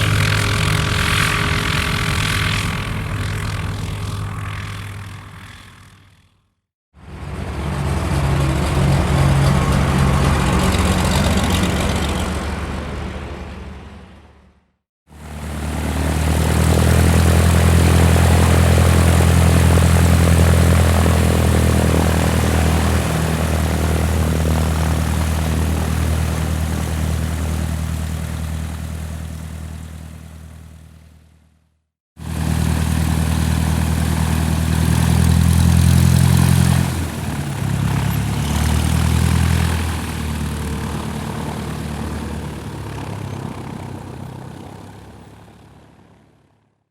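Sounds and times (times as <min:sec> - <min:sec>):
propeller plane engine drone: 0:00.0 - 0:46.9.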